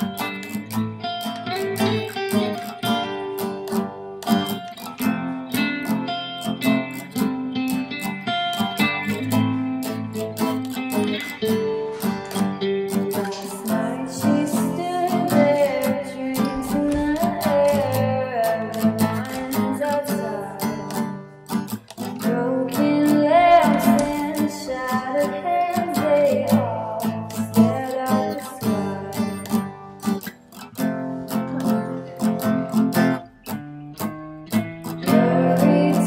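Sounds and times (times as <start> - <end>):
acoustic guitar music: 0.0 - 36.0.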